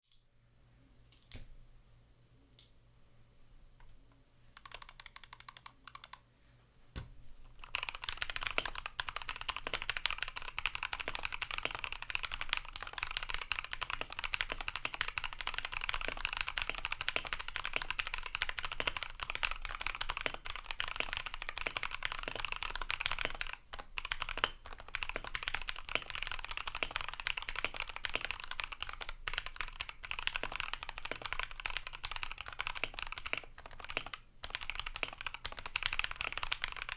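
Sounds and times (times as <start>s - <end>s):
fast keyboard typing: 4.6s - 6.2s, 7.5s - 36.9s.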